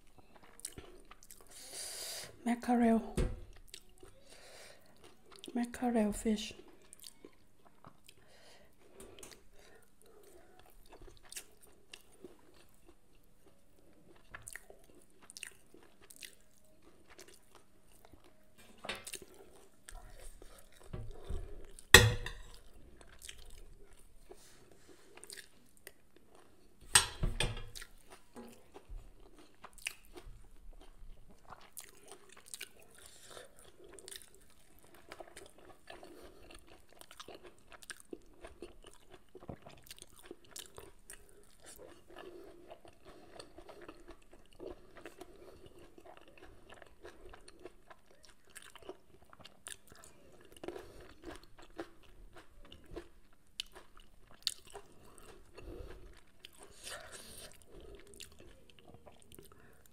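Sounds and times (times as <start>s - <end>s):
person chewing crunchy food: 0.0s - 2.1s, 4.8s - 5.6s, 6.6s - 26.8s, 27.6s - 59.9s.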